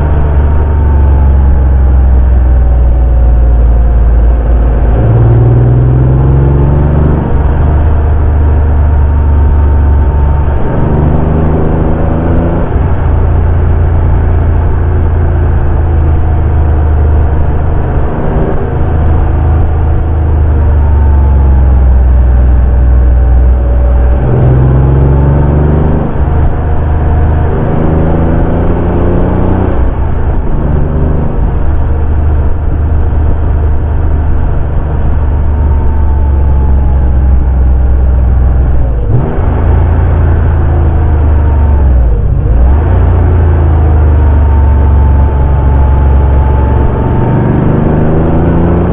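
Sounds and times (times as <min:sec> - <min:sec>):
car engine revving and cruising: 0:00.0 - 0:48.9.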